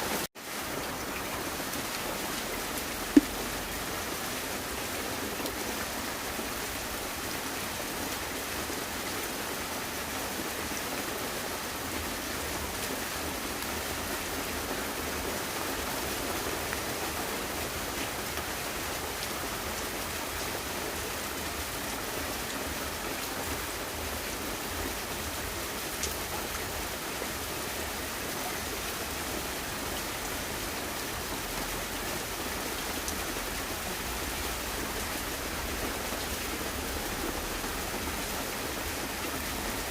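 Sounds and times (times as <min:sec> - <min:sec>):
steady hiss of heavy rain: 0:00.0 - 0:39.9.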